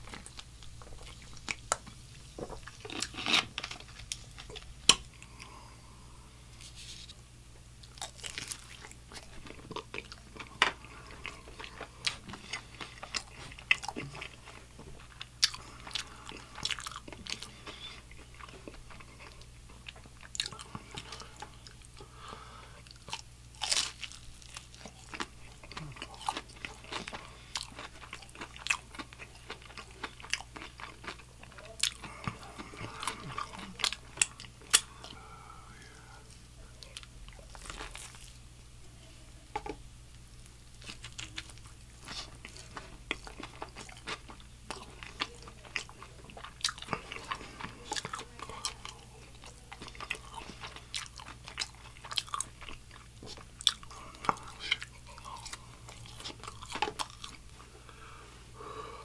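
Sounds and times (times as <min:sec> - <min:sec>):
chewing: 0:00.0 - 0:05.7, 0:07.8 - 0:38.4, 0:40.7 - 0:58.1
crunching fried chicken: 0:07.8 - 0:38.5, 0:40.4 - 0:57.5.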